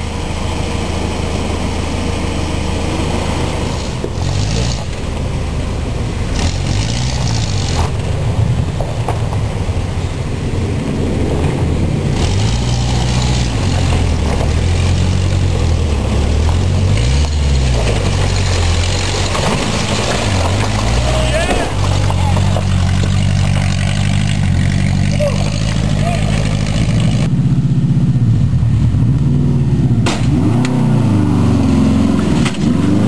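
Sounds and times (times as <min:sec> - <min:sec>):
vehicle engine revving: 0:00.0 - 0:33.0.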